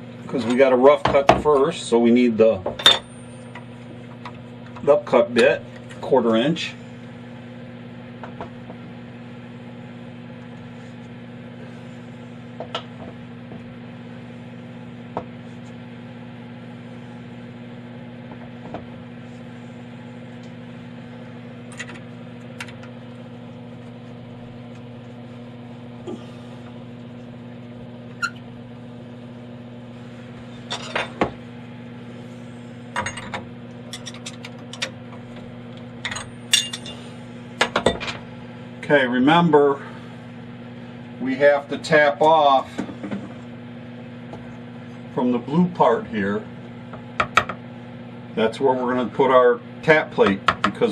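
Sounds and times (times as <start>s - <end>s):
low machine hum: 0.0s - 50.9s.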